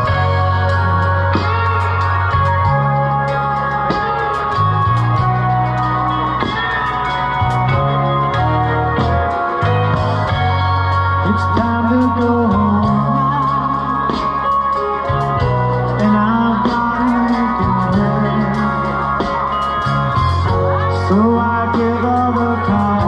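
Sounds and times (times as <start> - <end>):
bass notes: 0.0 - 23.0
drums beat: 0.0 - 23.0
electric guitar: 0.0 - 23.0.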